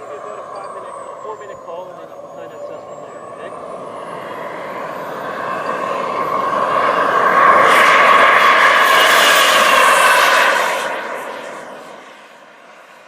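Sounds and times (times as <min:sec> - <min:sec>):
model jet turbine whining: 0:00.0 - 0:13.0.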